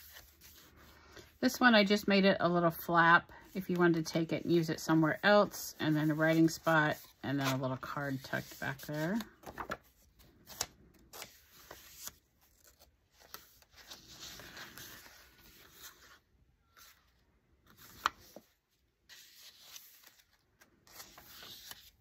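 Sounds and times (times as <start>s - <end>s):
paper rustling and sliding: 0.0s - 1.3s, 3.7s - 22.0s.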